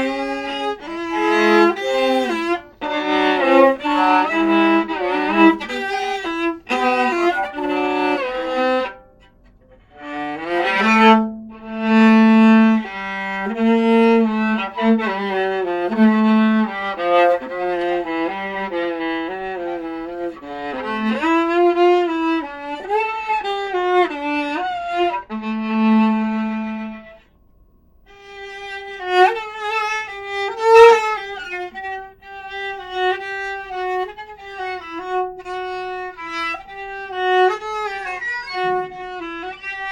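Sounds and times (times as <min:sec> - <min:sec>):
solo viola melody: 0:00.0 - 0:27.4, 0:28.0 - 0:39.9.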